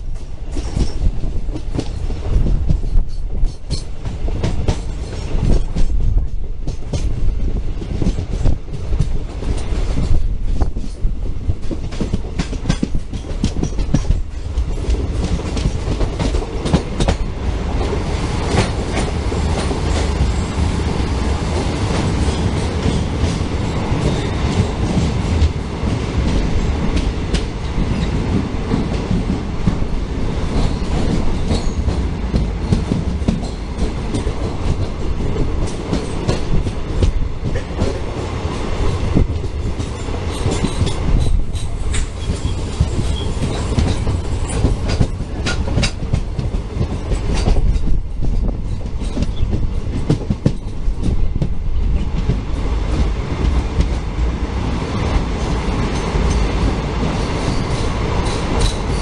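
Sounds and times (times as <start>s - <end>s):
train rumble echoing in tunnel: 0.0s - 59.0s
train wheels clattering: 0.0s - 59.0s.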